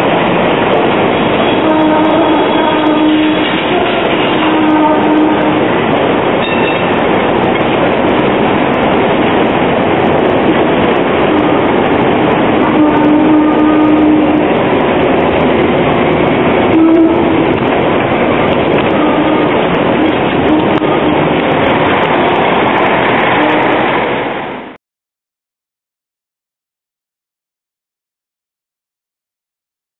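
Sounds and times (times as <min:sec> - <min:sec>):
tram wheels running on rail: 0:00.0 - 0:24.8.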